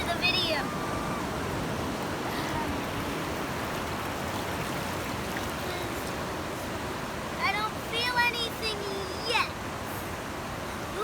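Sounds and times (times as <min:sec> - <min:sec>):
ocean surf washing on shore: 0:00.0 - 0:11.0.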